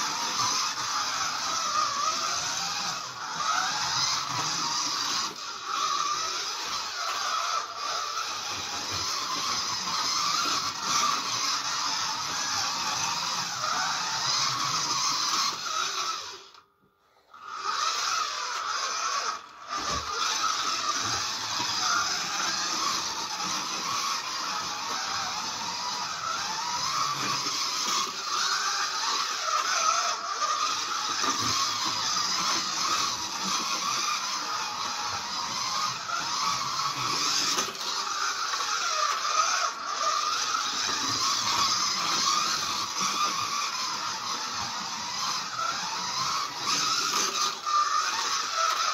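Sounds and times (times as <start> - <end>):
slot car whirring on track: 0.0 - 48.9.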